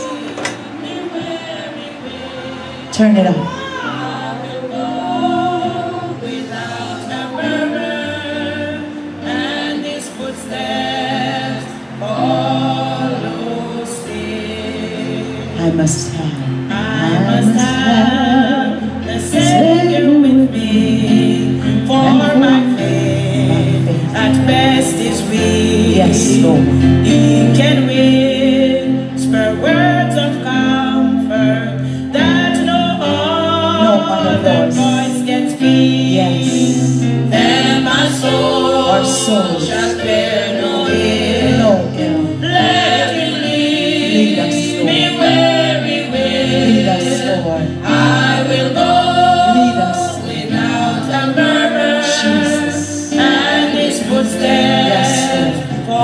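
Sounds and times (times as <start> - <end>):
gospel singing with band: 0.0 - 56.0.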